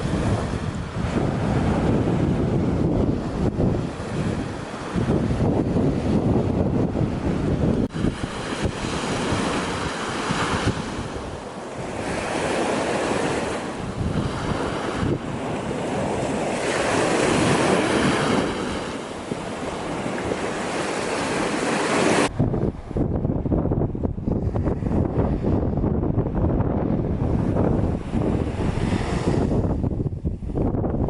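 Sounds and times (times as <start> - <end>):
sea waves breaking on shore: 0.0 - 23.0, 26.9 - 30.6
wind buffeting microphone: 0.0 - 31.0.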